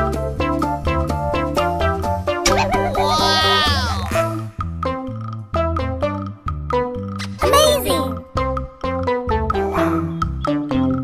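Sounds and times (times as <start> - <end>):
bouncy children's music: 0.0 - 11.0.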